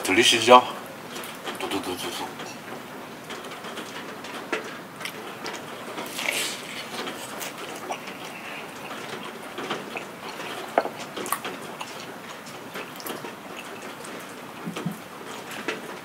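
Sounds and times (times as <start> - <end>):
steady rain patter: 0.0 - 16.0.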